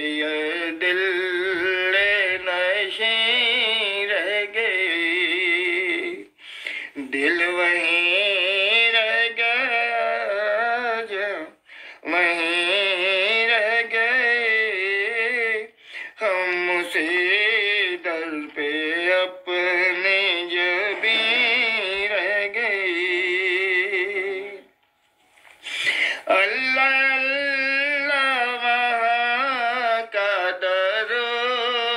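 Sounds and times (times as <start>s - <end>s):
person singing: 0.0s - 24.8s, 25.6s - 31.9s.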